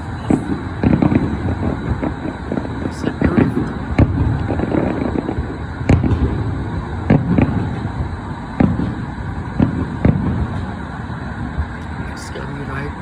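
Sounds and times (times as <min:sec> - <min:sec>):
distant fireworks bangs: 0:00.0 - 0:13.0
road traffic rumble: 0:00.0 - 0:13.0.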